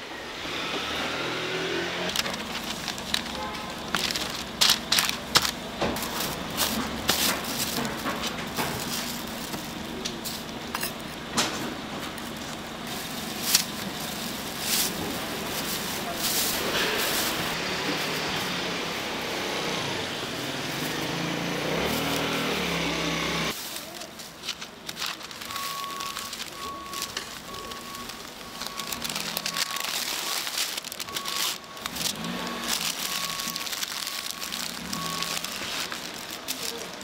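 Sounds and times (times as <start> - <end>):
street noise: 0.0 - 37.0.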